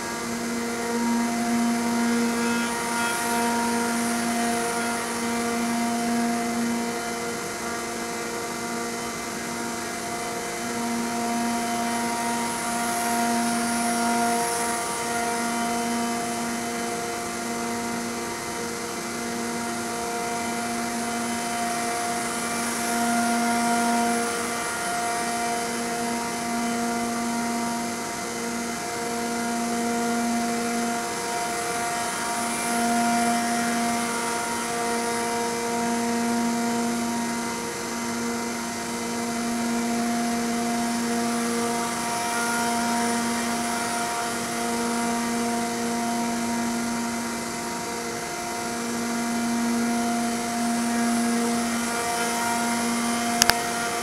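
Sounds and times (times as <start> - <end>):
router spindle machine whine: 0.0 - 54.0.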